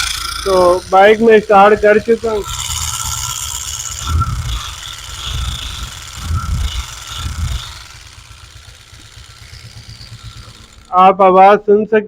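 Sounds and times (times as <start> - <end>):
engine with loud mechanical rattle: 0.0 - 11.8.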